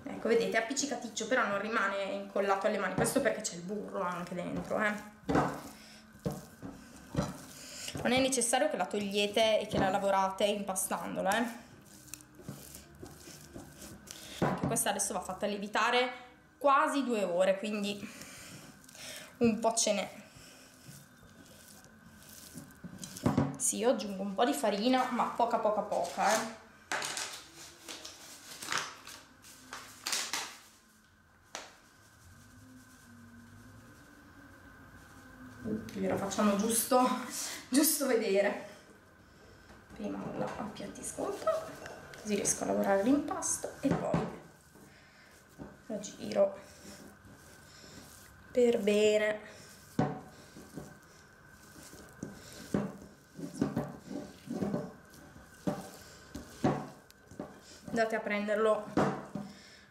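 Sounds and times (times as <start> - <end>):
dough kneaded in glass bowl: 0.0 - 38.8, 39.9 - 59.6
flour bag rustling and crinkling: 0.2 - 16.0, 16.9 - 38.2, 40.0 - 59.4.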